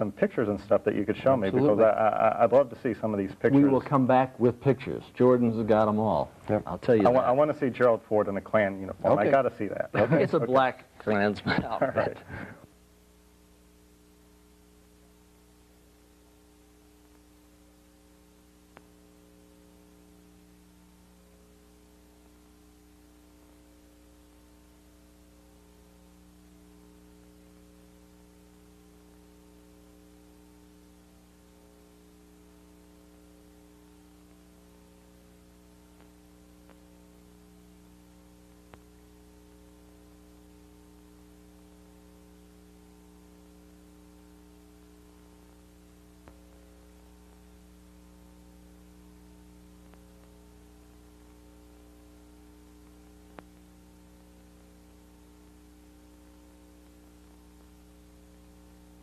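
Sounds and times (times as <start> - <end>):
electrical mains hum: 0.0 - 59.0
faint hiss: 0.0 - 59.0.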